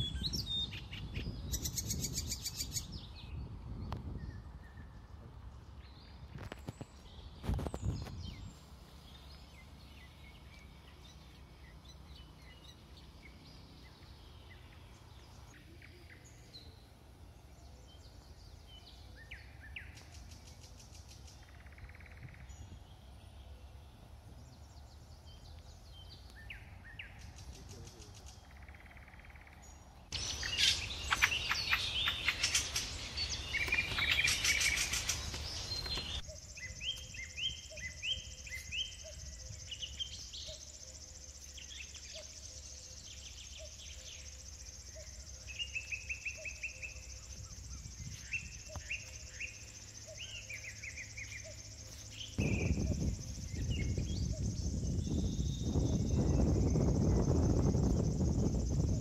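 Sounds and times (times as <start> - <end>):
birds chirping: 0.0 - 59.0
low outdoor background noise: 0.0 - 59.0.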